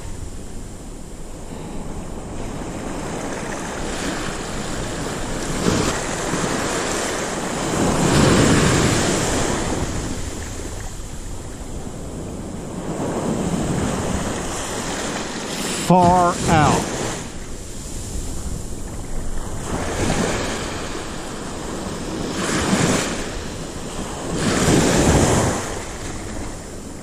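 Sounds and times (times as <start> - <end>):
surf breaking on sand: 1.3 - 27.0.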